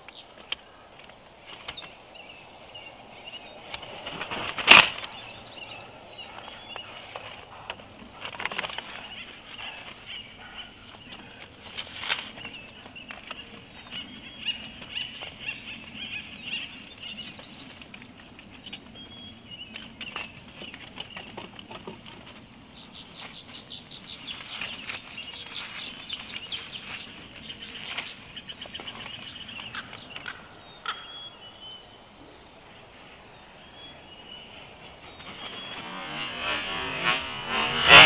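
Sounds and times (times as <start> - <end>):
songbirds singing: 0.0 - 38.0.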